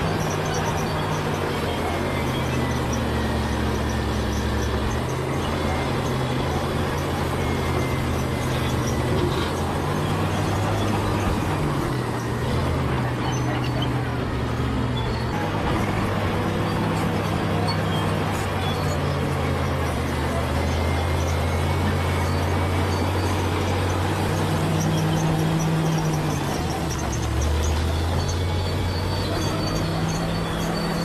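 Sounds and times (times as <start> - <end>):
bulldozer diesel engine under load: 0.0 - 31.0.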